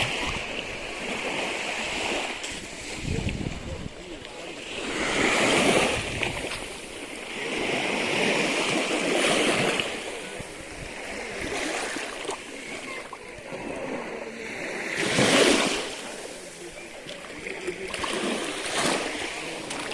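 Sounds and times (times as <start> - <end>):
ocean surf washing ashore: 0.0 - 19.9.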